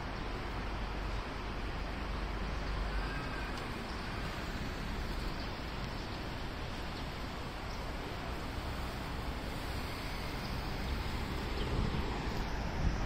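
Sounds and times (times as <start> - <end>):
city background noise: 0.0 - 13.0
wind rumble on microphone: 0.0 - 13.0.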